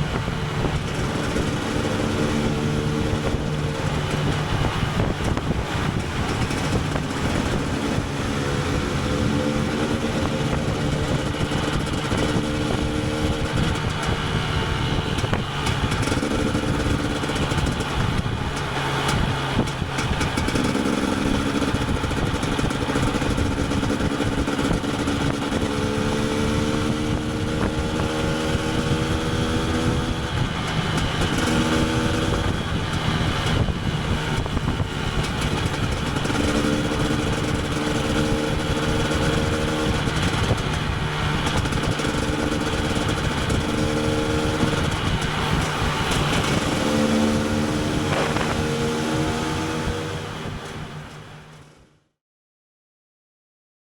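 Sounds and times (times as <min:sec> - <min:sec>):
two-stroke engine revving: 0:00.0 - 0:51.8.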